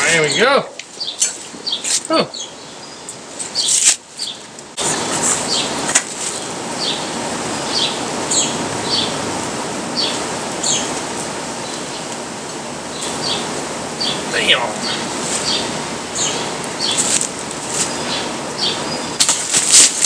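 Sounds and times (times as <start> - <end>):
bird chirping: 0.0 - 9.3, 9.9 - 12.2, 12.8 - 19.2
steady rushing hiss: 3.1 - 20.0.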